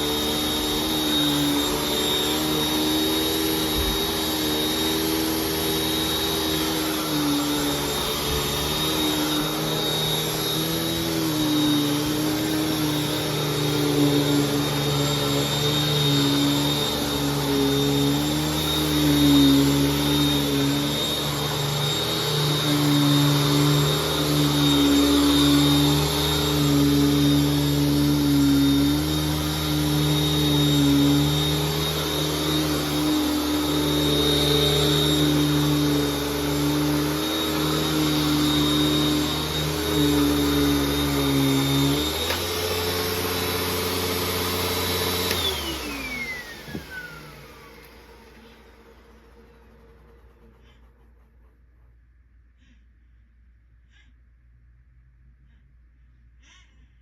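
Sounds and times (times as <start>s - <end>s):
vacuum cleaner motor whine: 0.0s - 51.0s.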